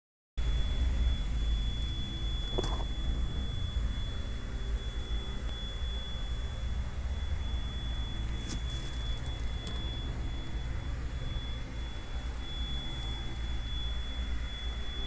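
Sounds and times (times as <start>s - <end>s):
high whine: 0.4s - 15.0s
engine idling: 0.6s - 15.0s.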